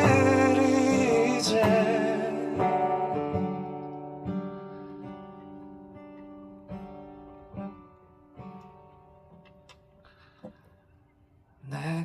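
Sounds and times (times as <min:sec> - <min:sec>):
acoustic guitar plucked softly: 0:00.0 - 0:12.0.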